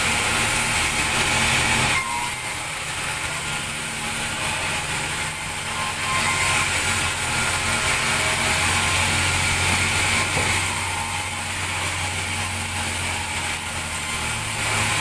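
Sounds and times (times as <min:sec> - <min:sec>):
bandsaw cutting timber: 0:00.0 - 0:15.0.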